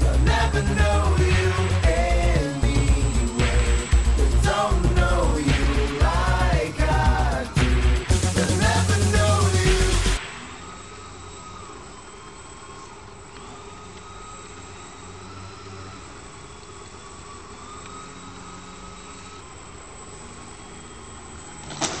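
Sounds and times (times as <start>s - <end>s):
electric motor and propeller whine: 0.0s - 22.0s.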